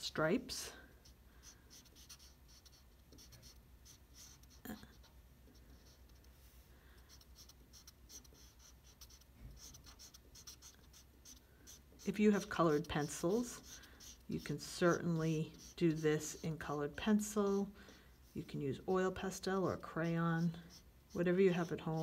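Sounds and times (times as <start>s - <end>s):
felt-tip marker rubbing on paper: 0.1s - 22.0s.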